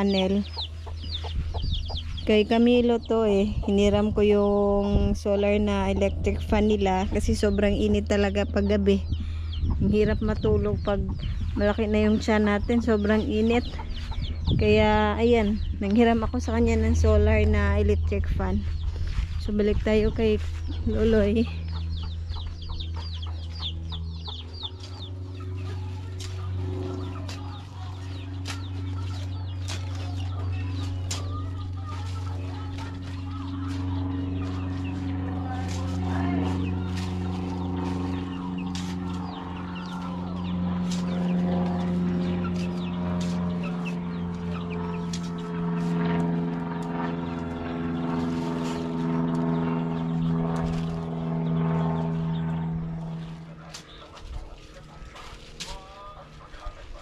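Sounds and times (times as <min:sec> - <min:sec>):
chickens clucking: 0:00.0 - 0:19.4, 0:20.3 - 0:47.4, 0:52.7 - 0:57.0
steady engine drone: 0:00.0 - 0:57.0
steady low hum: 0:00.0 - 0:57.0.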